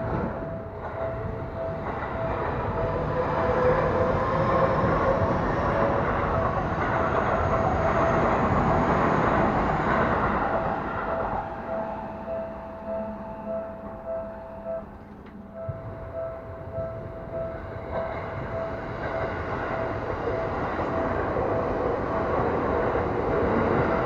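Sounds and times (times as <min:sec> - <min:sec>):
crossing warning bell: 0:00.0 - 0:24.0
electric train running on rails: 0:00.0 - 0:24.0.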